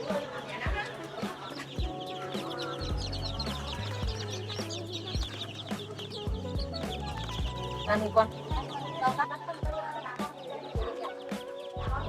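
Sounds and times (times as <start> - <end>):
background music with steady beat: 0.0 - 12.0
chicks peeping: 0.0 - 12.0.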